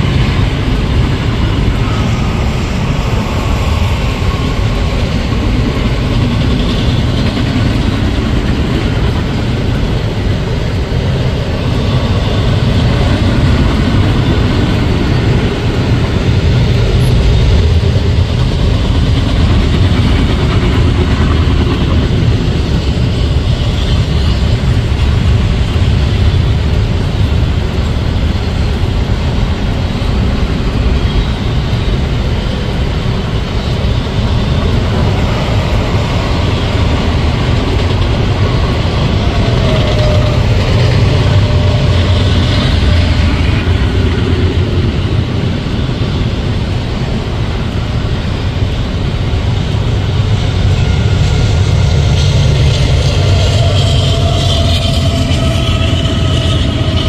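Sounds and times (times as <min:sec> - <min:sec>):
steel train wheels rumbling on rail: 0:00.0 - 0:57.0.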